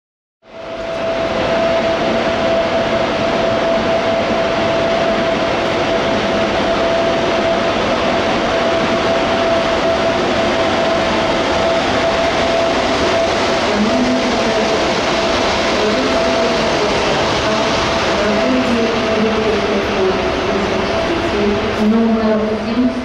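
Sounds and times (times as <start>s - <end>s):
locomotive whine: 0.5s - 23.0s.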